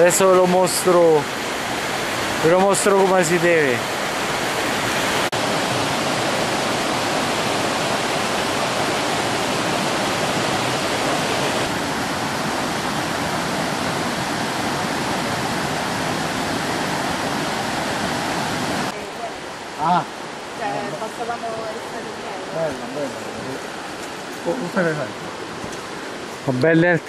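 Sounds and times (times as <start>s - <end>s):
river water rushing over rocks: 0.0s - 27.0s.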